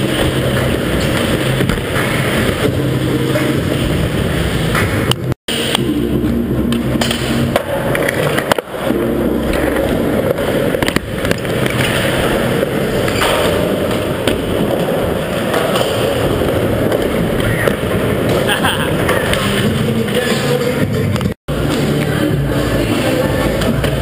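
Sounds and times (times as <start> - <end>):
skateboard wheels rolling on concrete: 0.0 - 24.0.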